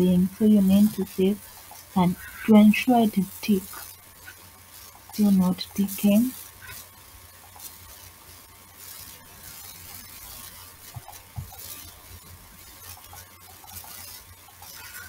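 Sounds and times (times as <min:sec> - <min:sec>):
microphone hiss and crackle: 0:00.0 - 0:15.0.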